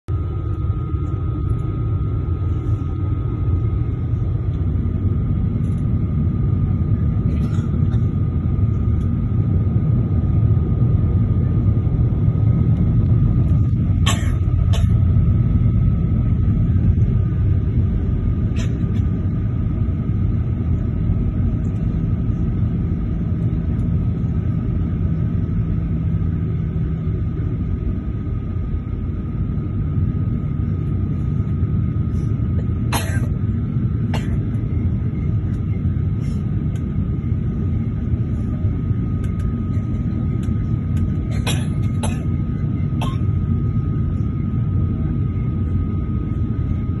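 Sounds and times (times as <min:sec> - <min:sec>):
jet engines rumbling: 0:00.1 - 0:47.0
thin steady whine: 0:00.1 - 0:47.0.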